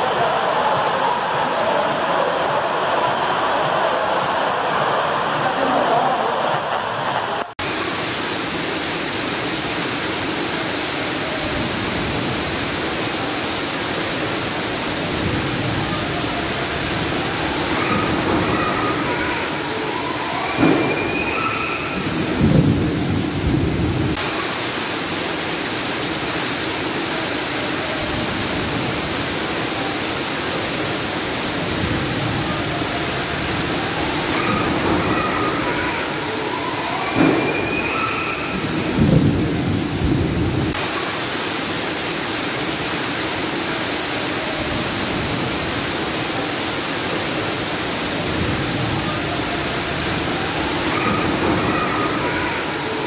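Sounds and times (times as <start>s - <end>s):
torrential rain on skylight roof: 0.0s - 53.0s
water pouring through ceiling: 0.0s - 53.0s.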